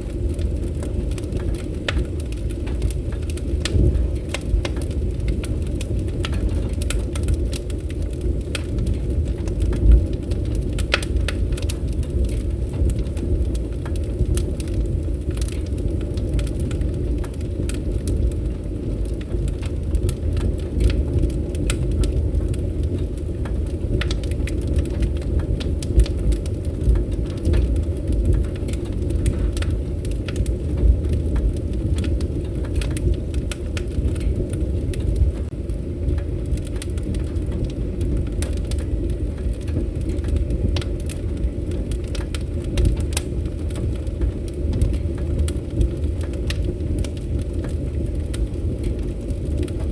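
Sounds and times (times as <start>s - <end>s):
campfire crackling and popping: 0.0s - 49.9s
steady low rumble: 0.0s - 49.9s.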